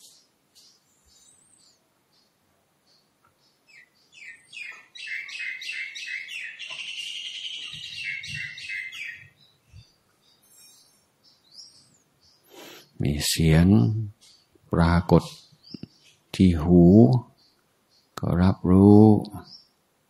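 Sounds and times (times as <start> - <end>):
bird chirping and trilling: 0.0 - 19.8.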